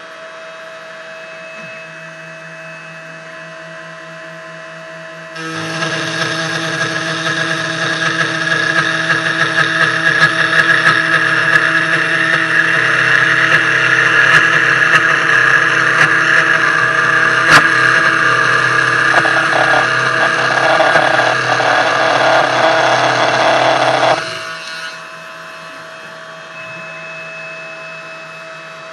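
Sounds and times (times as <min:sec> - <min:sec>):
motor hum: 0:00.0 - 0:26.8
router cutting whine: 0:00.0 - 0:28.9.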